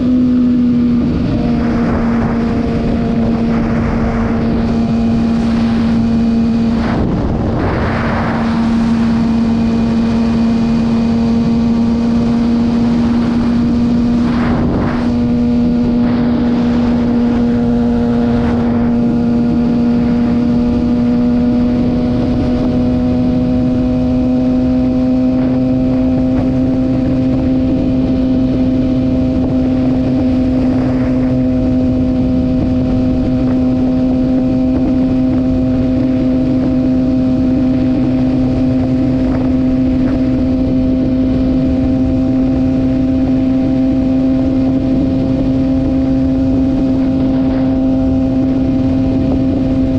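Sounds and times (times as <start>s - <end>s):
heavy wind noise: 0.0s - 49.9s
motorcycle engine running: 0.0s - 49.9s.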